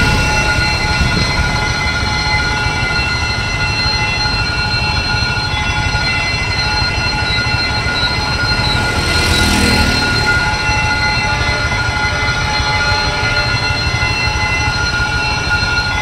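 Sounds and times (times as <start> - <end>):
high-pitched tones: 0.0 - 14.2
train rumble: 0.0 - 16.0.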